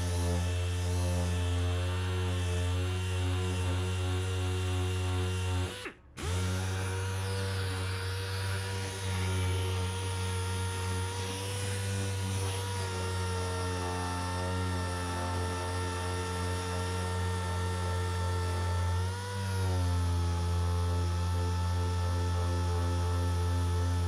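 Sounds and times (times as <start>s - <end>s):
electric power tool running: 0.0s - 24.0s.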